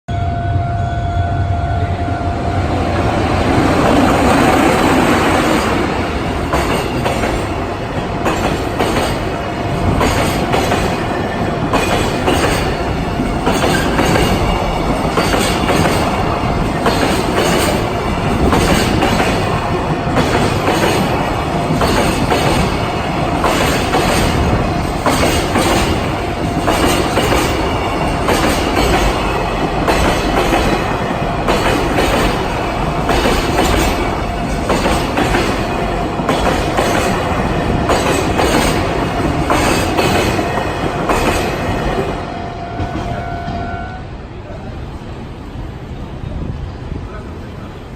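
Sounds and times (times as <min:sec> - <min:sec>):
electric locomotive passing: 0:00.1 - 0:47.9.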